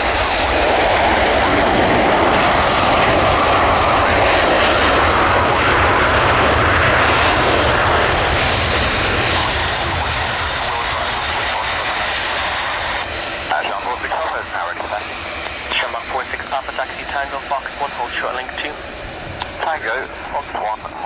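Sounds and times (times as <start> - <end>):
jet engines landing: 0.0 - 21.0.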